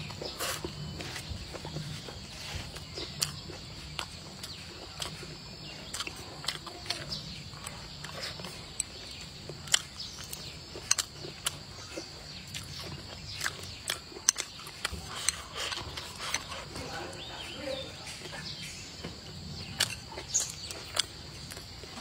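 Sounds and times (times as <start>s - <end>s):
chewing and lip smacks: 0.0s - 22.0s.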